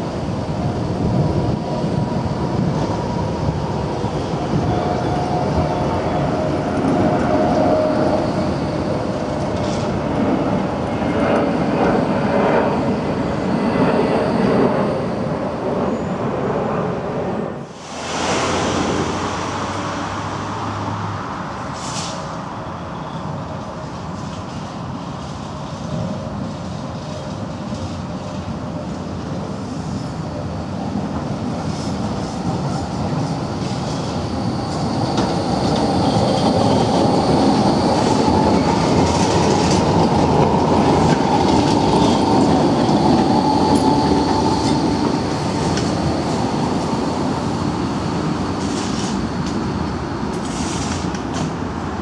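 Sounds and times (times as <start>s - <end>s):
tram wheels rumbling on rails: 0.0s - 52.0s.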